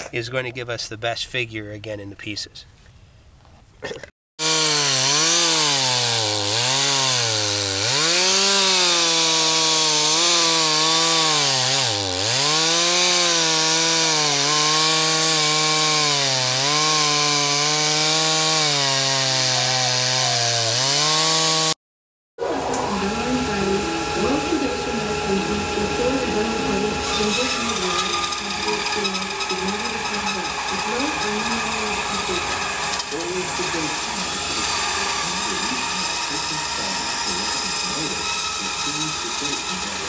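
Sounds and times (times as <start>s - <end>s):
chainsaw cutting log: 4.4s - 21.8s, 22.6s - 40.0s.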